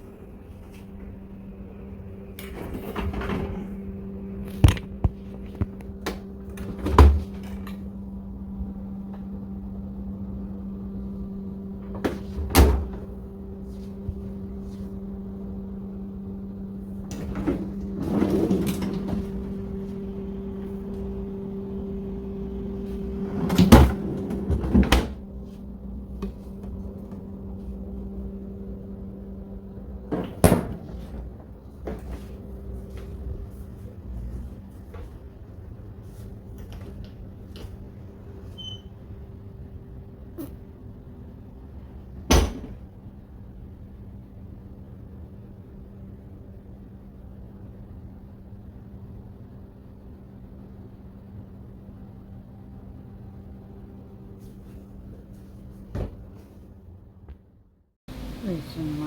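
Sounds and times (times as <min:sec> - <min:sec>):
steady electric hum: 0:00.0 - 0:57.4, 0:58.1 - 0:59.0.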